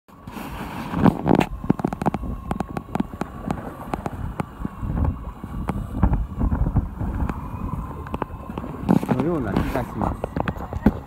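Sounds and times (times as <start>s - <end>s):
faint steady hum: 0.1s - 11.0s
wind buffeting microphone: 0.1s - 11.0s.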